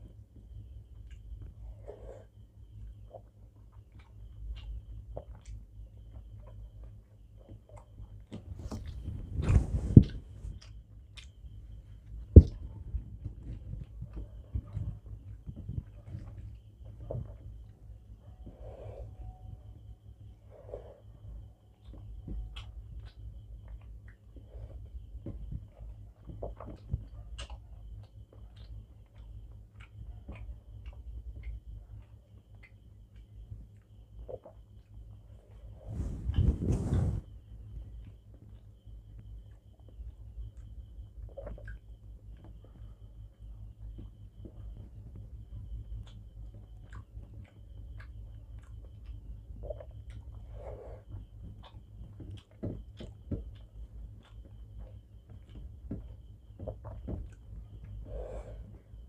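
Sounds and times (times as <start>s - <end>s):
steady low hum: 0.0s - 59.0s
chewing and mouth noises: 1.0s - 17.8s, 20.7s - 36.4s, 38.0s - 44.9s, 45.7s - 59.0s.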